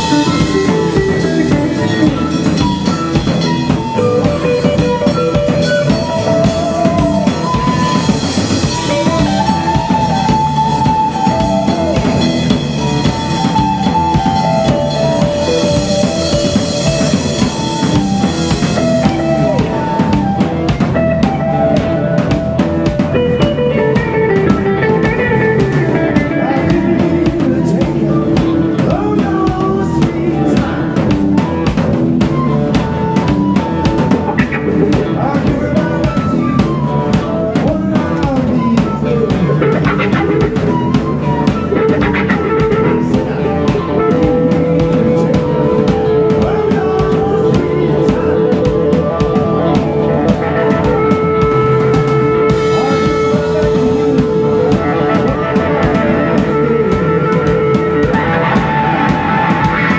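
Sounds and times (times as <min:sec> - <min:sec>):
drum kit beat: 0:00.0 - 0:59.9
electric guitar bending notes: 0:00.0 - 0:59.9
live rock band playing: 0:00.0 - 0:59.9.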